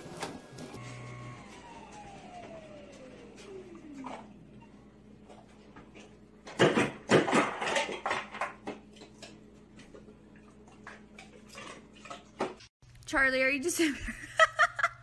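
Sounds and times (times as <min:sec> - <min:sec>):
fridge low hum: 0:00.0 - 0:13.2.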